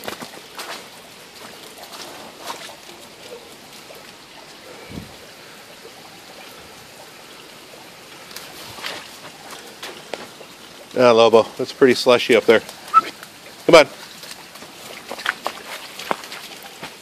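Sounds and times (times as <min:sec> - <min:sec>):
waterfall rushing over ice: 0:00.0 - 0:17.0.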